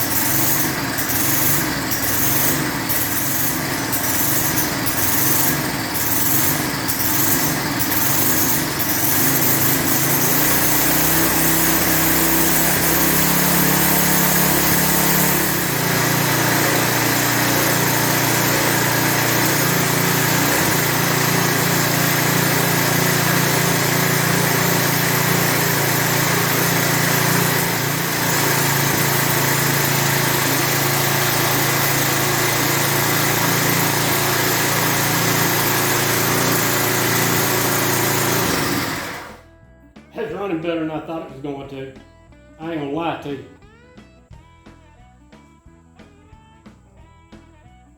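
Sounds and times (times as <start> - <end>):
lawn edger engine running: 0.0 - 39.4.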